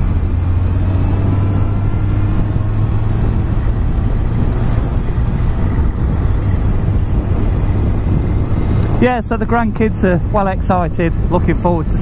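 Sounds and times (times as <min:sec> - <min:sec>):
wind rushing: 0:00.0 - 0:10.4
motorcycle engine running: 0:00.0 - 0:12.0.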